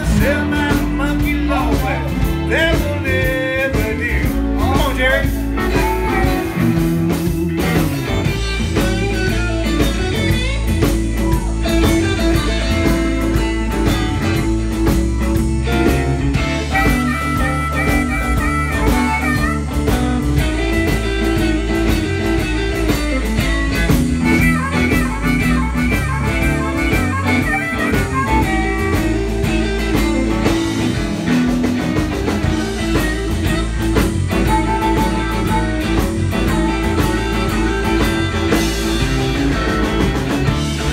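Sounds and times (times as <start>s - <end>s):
bass guitar: 0.0s - 40.9s
drum kit: 0.0s - 40.9s
electric guitars: 0.0s - 40.9s.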